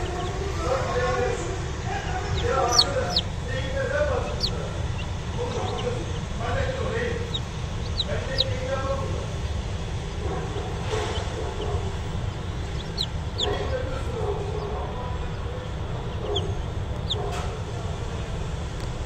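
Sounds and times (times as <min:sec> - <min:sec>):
chicks peeping: 0:00.0 - 0:19.0
steady low hum: 0:00.0 - 0:19.0.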